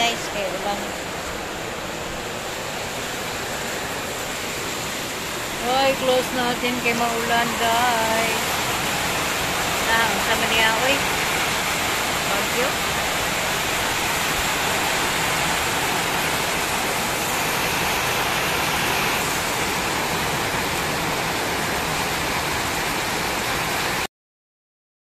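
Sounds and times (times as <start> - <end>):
heavy rain pouring: 0.0 - 24.1.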